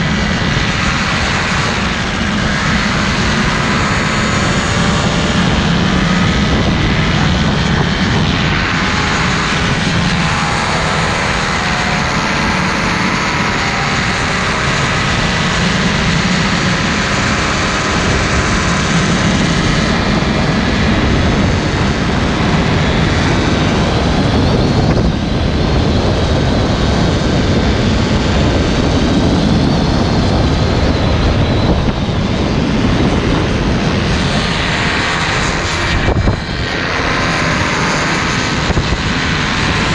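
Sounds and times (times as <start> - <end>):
paramotor engine and propeller: 0.0 - 39.9
wind noise on microphone: 0.0 - 39.9.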